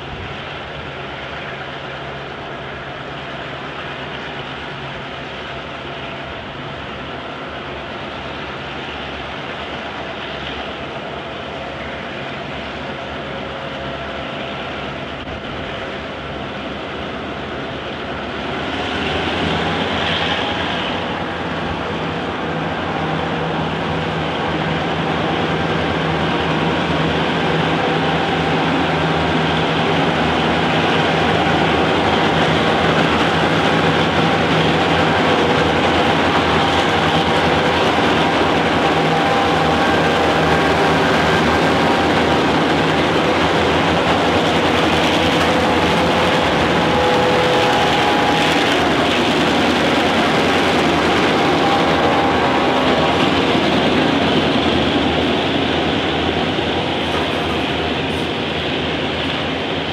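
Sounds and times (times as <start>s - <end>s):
diesel locomotive engine drone: 0.0s - 59.9s.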